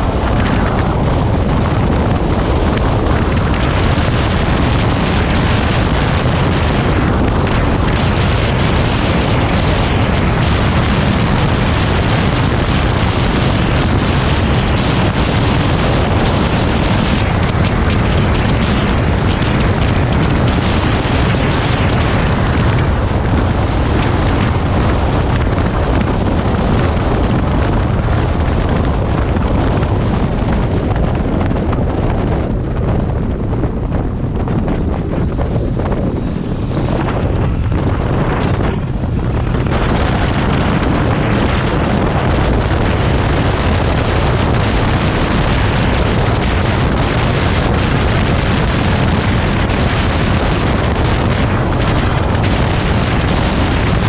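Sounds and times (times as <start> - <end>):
motorcycle engine: 0.0 - 54.0
wind buffeting microphone: 0.0 - 54.0.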